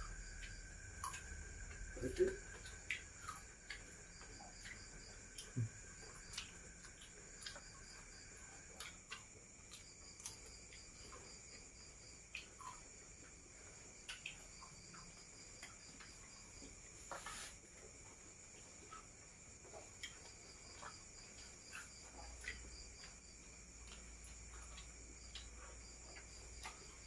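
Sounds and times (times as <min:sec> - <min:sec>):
crickets and insects chirring: 0:00.0 - 0:27.0
pulsing insect trill: 0:00.0 - 0:27.0.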